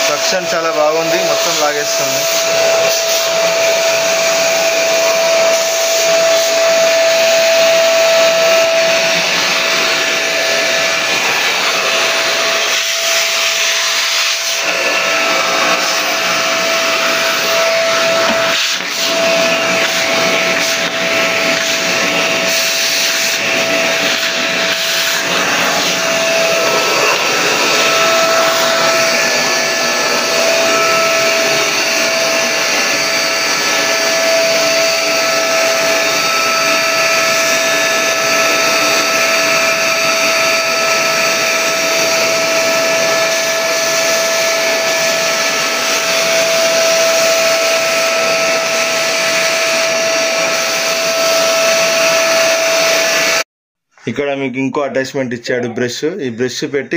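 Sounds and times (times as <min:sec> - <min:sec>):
air rushing through vacuum wand: 0:00.0 - 0:53.4
vacuum cleaner motor whine: 0:00.0 - 0:53.4.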